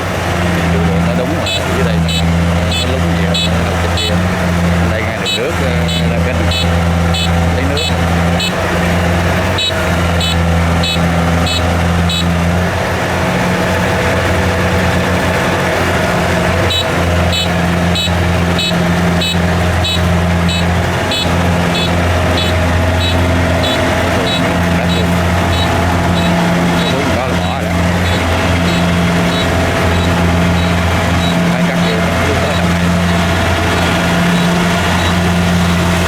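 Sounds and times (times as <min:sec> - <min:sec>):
diesel engine droning: 0:00.0 - 0:36.0
regular high ticking: 0:00.0 - 0:36.0.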